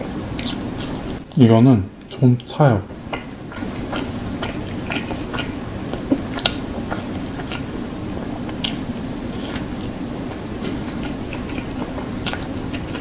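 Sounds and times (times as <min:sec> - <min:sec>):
steady low hum: 0:00.0 - 0:13.0
wet chewing clicks: 0:02.0 - 0:13.0.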